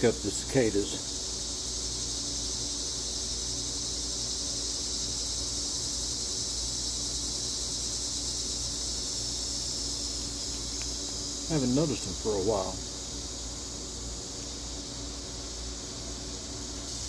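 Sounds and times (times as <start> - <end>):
cicadas singing: 0.0 - 17.0.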